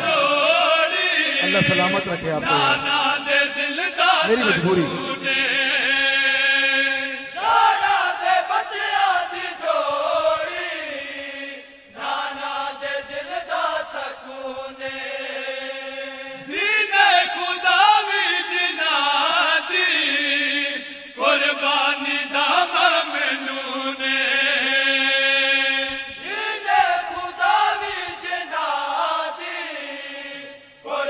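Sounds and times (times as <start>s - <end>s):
men chanting devotional song: 0.0s - 31.0s.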